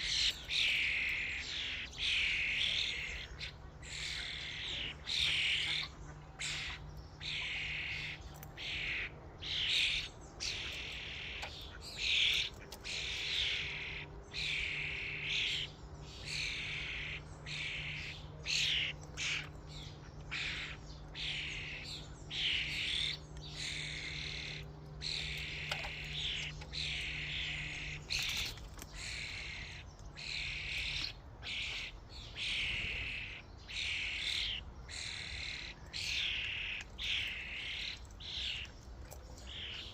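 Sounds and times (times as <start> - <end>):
starlings calling: 0.0 - 39.9.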